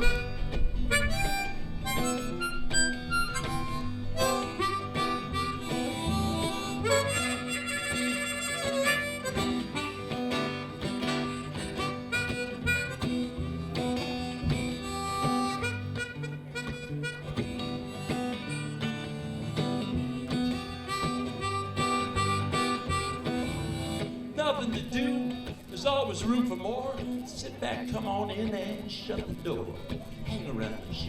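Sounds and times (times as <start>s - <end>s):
live band playing: 0.0s - 27.3s.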